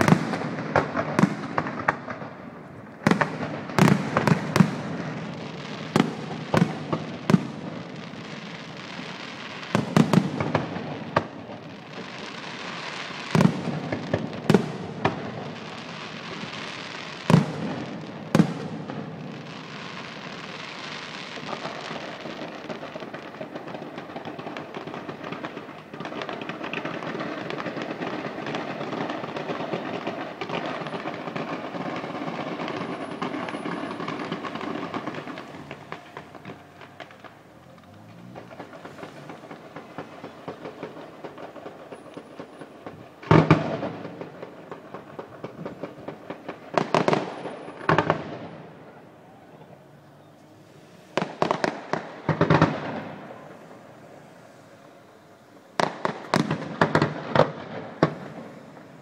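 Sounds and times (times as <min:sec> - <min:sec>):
fireworks bursting with bangs: 0:00.0 - 0:59.0
fireworks crackling hiss: 0:00.0 - 0:59.0.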